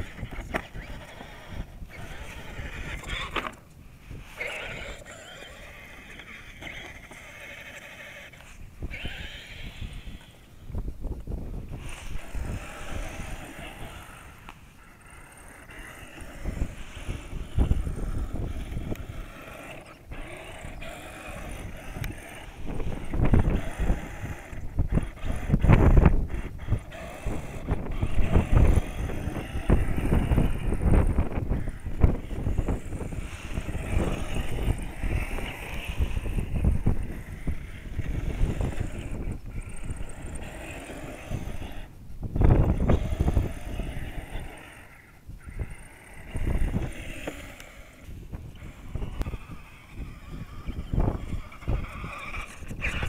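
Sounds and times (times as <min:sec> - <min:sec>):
toy truck electric motor whirring: 0:00.0 - 0:03.6, 0:04.2 - 0:10.6, 0:11.6 - 0:53.0
wind buffeting microphone: 0:00.0 - 0:53.0.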